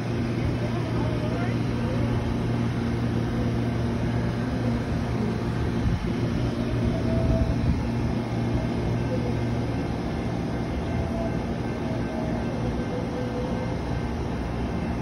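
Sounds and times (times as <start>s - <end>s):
constant low hum: 0.0s - 15.0s
train cars rumbling on track: 0.0s - 15.0s.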